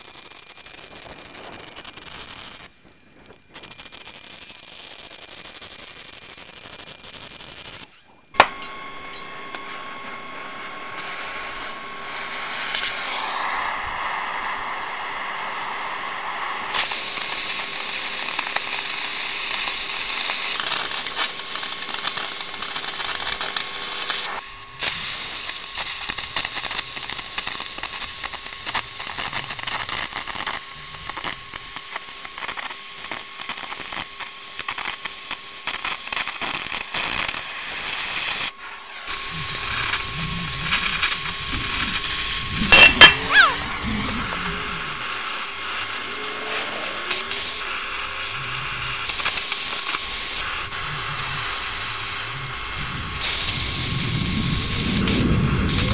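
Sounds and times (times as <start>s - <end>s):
cutting torch hissing: 0.0s - 55.9s.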